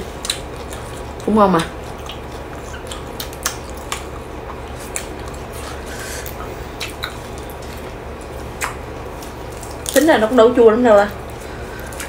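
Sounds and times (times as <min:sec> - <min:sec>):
chewing leafy greens: 0:00.0 - 0:12.0.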